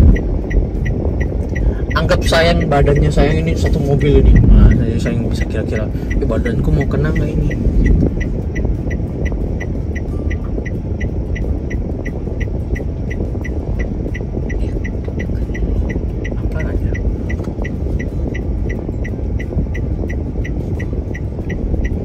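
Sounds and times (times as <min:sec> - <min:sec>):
background music with ticking beat: 0:00.0 - 0:22.0
car cabin road and engine noise: 0:00.0 - 0:22.0.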